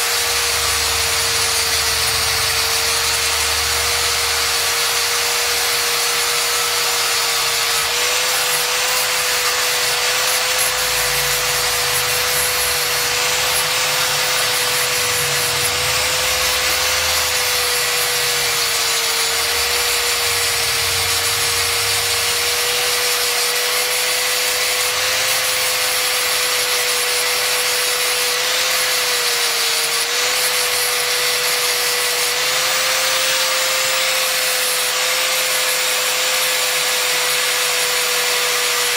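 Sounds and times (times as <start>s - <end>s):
angle grinder motor whine: 0.0s - 38.9s
hiss of sanding: 0.0s - 38.9s.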